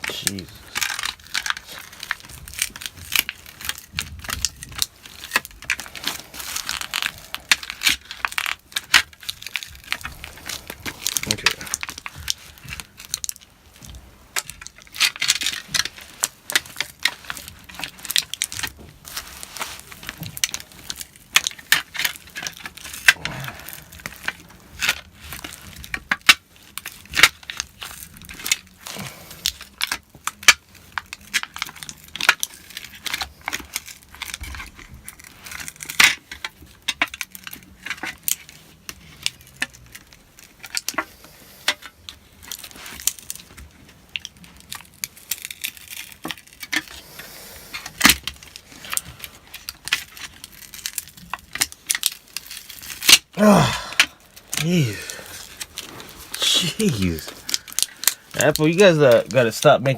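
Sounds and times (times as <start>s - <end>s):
adhesive tearing with crackles: 0.0s - 59.9s.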